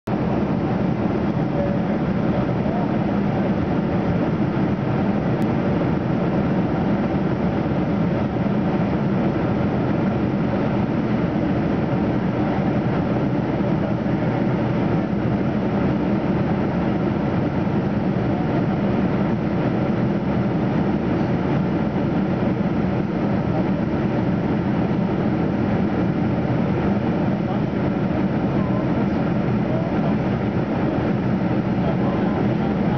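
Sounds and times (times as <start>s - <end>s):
airplane cabin noise: 0.1s - 32.9s.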